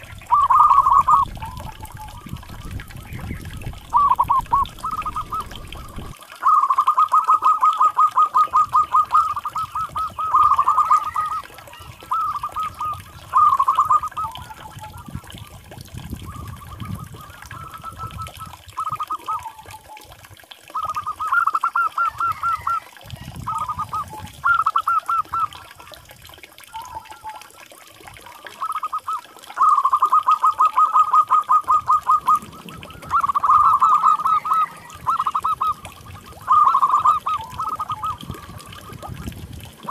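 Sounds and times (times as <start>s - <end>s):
doves cooing: 0.0s - 26.0s, 26.7s - 39.9s.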